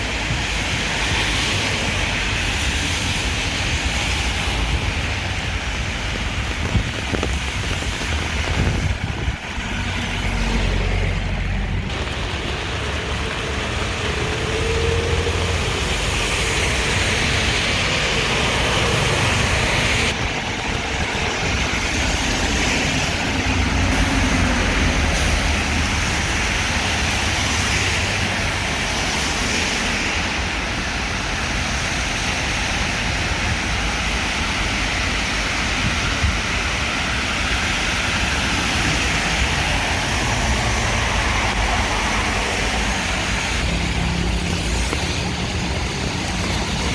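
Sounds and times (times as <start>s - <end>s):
rain hiss: 0.0s - 46.9s
tyres hissing on wet road: 0.0s - 46.9s.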